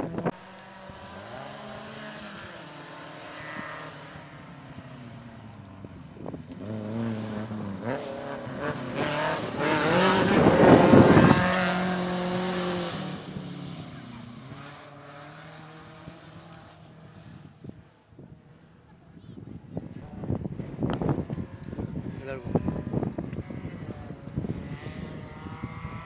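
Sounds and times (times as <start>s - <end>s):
rally car engine revving: 0.0s - 17.8s, 20.0s - 26.0s.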